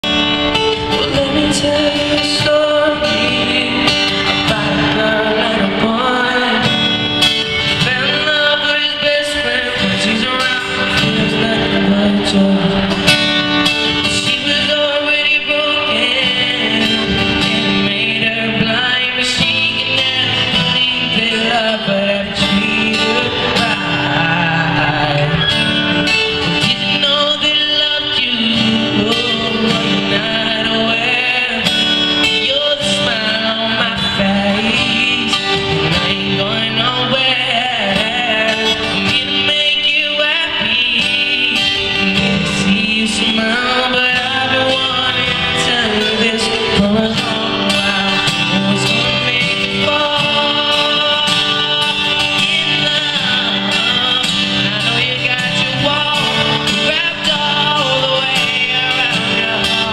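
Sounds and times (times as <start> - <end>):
man singing: 0.0 - 59.9
strummed acoustic guitars: 0.0 - 59.9.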